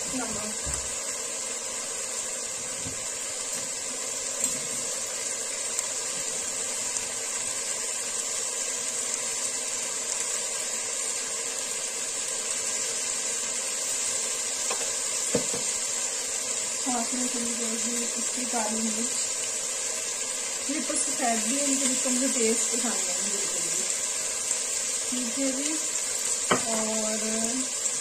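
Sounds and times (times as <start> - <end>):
chicken sizzling in a wok: 0.0 - 28.0.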